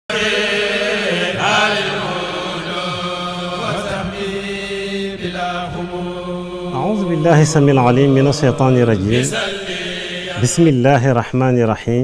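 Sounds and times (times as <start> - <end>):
vocal chanting with held notes: 0.1 - 12.0.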